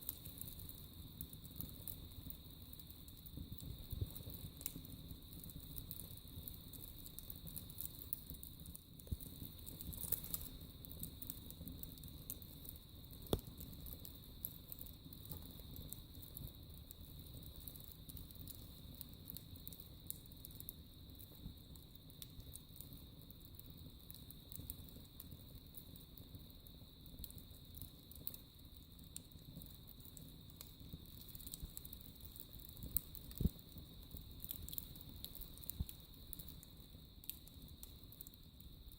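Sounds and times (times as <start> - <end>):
loud fire pops: 0.0 - 23.0, 27.0 - 38.7
wood fire crackling: 0.0 - 38.9.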